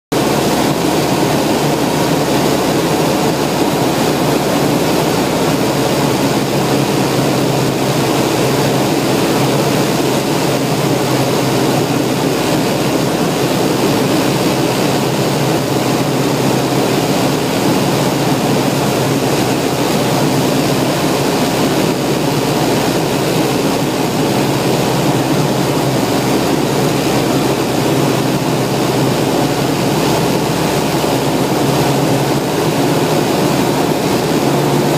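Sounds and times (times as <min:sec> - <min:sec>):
propeller aircraft engine droning: 0:00.1 - 0:34.9.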